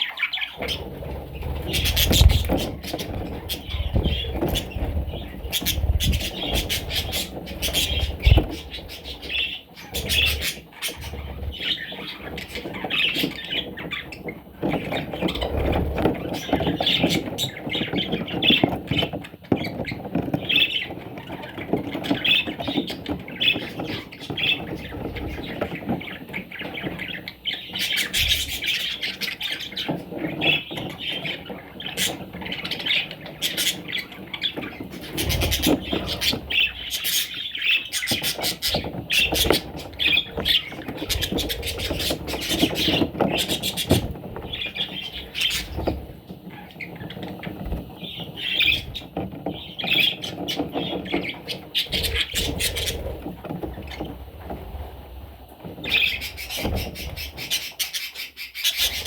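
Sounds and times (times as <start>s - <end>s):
parrots squawking and chattering: 0.0s - 54.6s, 55.7s - 59.0s.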